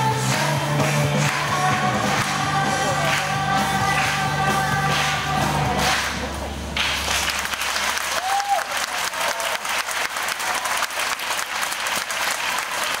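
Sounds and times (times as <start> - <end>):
audience applauding: 0.3 - 6.2, 6.8 - 13.0.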